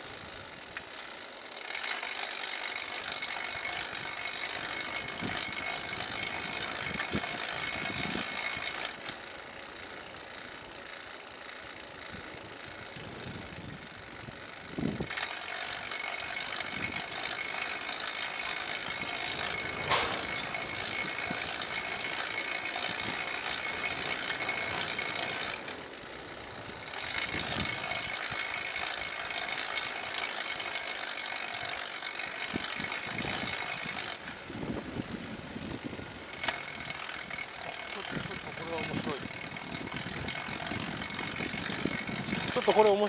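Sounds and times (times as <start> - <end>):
bicycle freewheel ticking: 0.0 - 43.0.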